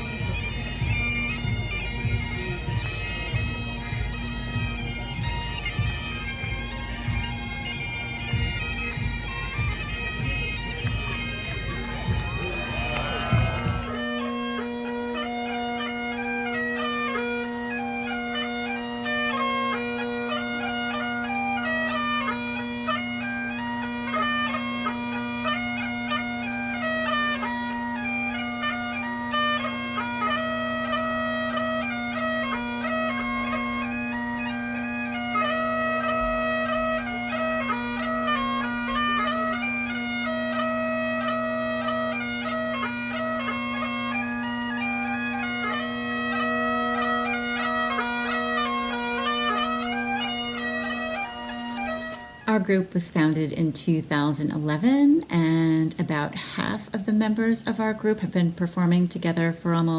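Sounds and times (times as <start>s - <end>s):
bagpipe playing a tune with drones: 0.0s - 55.8s.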